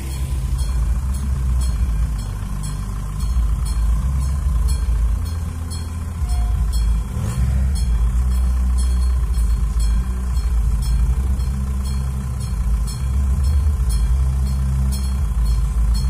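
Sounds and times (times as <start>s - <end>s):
car engine idling: 0.0s - 16.0s
cars driving past: 0.0s - 16.0s
electric crossing bell ringing: 0.0s - 16.0s.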